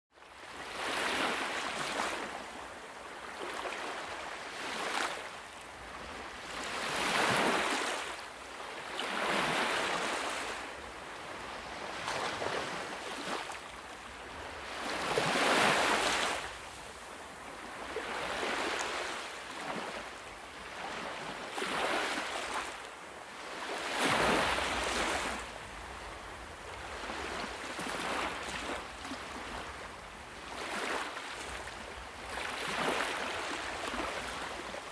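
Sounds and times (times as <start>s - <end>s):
ocean waves breaking on beach: 0.2s - 34.9s.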